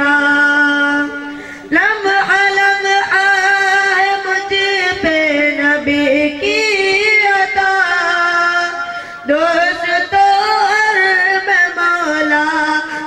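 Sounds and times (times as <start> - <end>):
boy singing into microphone: 0.0 - 13.0.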